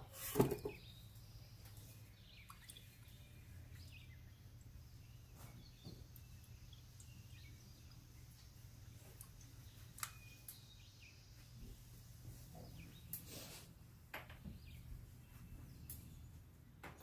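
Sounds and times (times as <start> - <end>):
faint low hum: 0.6 - 17.0.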